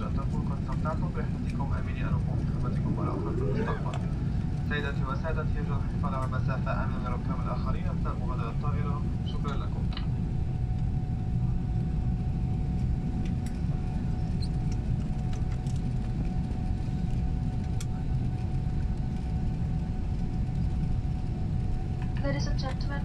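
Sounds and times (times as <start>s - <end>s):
aircraft cabin rumble: 0.0s - 23.0s
faint steady whine: 0.0s - 23.0s.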